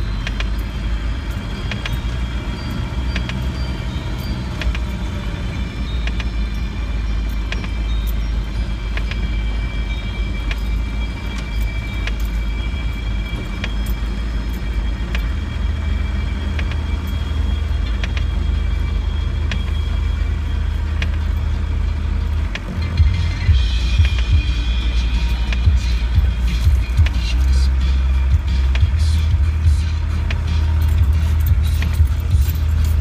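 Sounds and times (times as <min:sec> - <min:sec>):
engine and drivetrain drone: 0:00.0 - 0:33.0.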